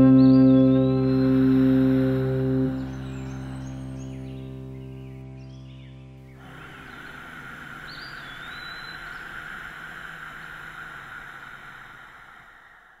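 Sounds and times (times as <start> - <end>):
outdoor ambient hiss: 0.0 - 13.0.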